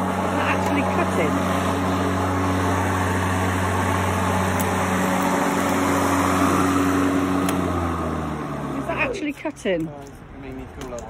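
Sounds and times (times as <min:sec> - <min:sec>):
electric lawnmower humming: 0:00.0 - 0:09.8.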